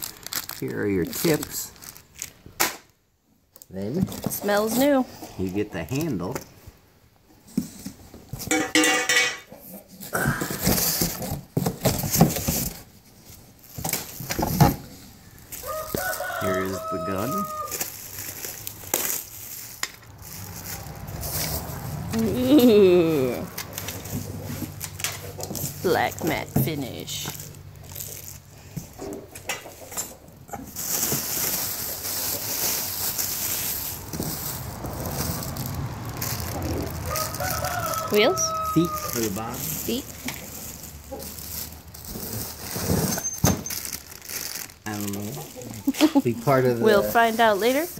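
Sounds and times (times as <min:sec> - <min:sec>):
plastic wrap crinkling: 0:00.0 - 0:02.6, 0:05.4 - 0:06.4, 0:10.6 - 0:47.9.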